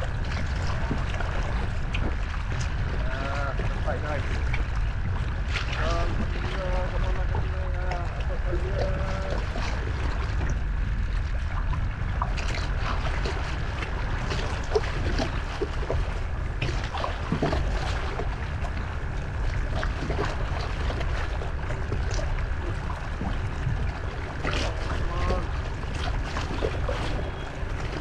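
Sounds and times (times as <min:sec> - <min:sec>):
waves slapping against kayak hull: 0:00.0 - 0:28.0
wind on microphone: 0:00.0 - 0:28.0.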